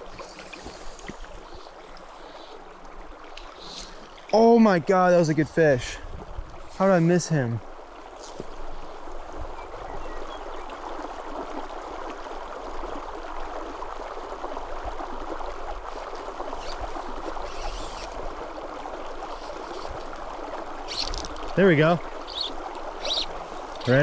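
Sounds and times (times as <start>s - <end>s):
creek burbling: 0.0s - 24.0s.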